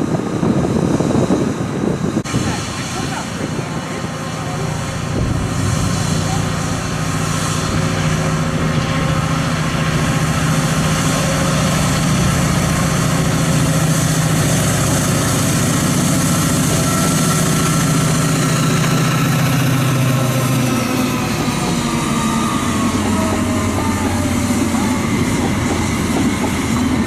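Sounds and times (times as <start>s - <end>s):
diesel locomotive engine idling: 2.1s - 27.0s.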